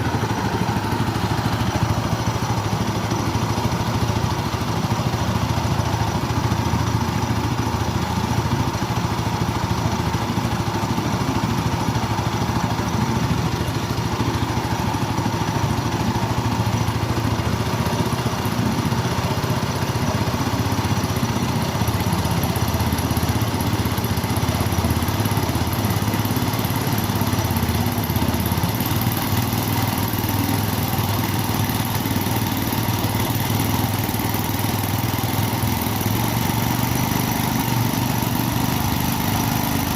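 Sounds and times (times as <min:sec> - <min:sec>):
scooter engine running steadily: 0:00.0 - 0:39.9.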